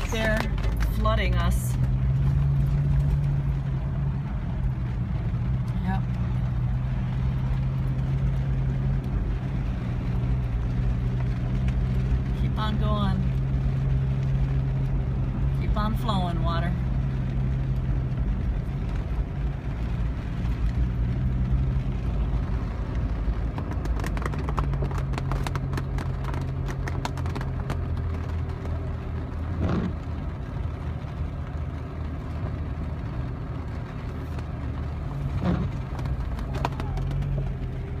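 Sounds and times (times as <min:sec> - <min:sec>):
car engine humming: 0:00.0 - 0:38.0.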